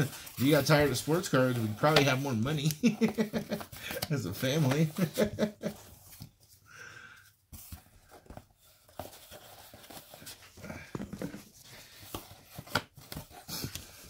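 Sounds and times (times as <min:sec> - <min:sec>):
cards and boxes handled on table: 0:00.0 - 0:06.6, 0:07.3 - 0:14.0.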